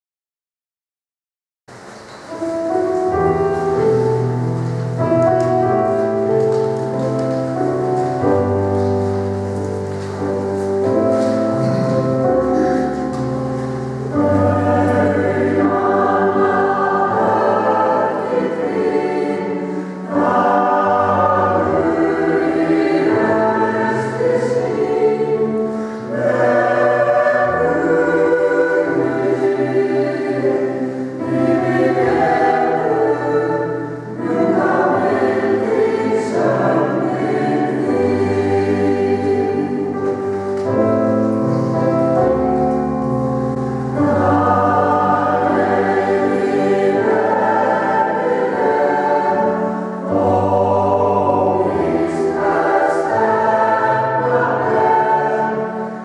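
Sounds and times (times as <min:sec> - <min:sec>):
piano accompaniment: 0:01.7 - 0:56.0
choir singing a hymn: 0:02.3 - 0:56.0.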